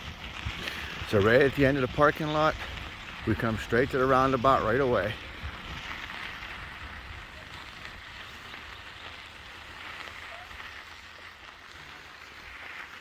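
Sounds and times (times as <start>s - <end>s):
bicycle tyres crunching on gravel: 0.0s - 13.0s.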